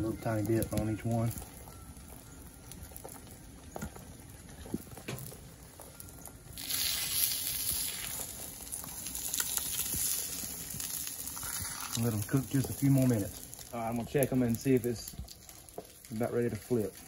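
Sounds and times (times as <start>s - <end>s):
eggs sizzling on griddle: 0.0s - 17.0s.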